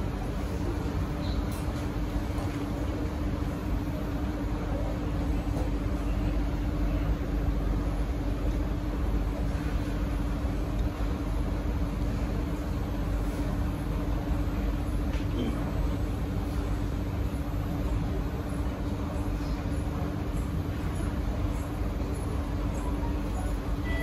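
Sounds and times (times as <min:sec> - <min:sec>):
train equipment rumble and hum: 0:00.0 - 0:24.0.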